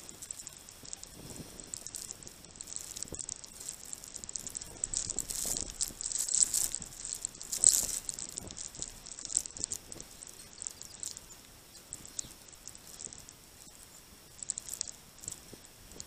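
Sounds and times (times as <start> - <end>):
birds pecking clicks: 0.0 - 16.0
scratches and rustles: 0.0 - 16.0.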